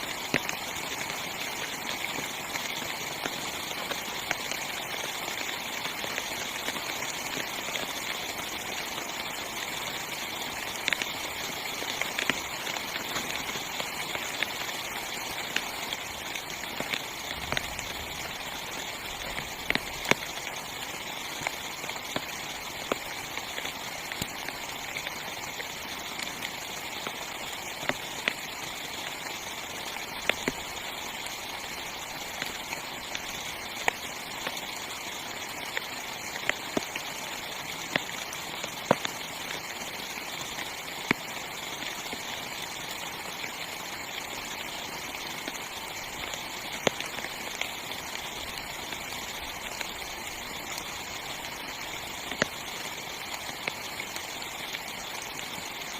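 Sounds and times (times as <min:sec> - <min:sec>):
heavy rain on tent fabric: 0:00.0 - 0:55.9.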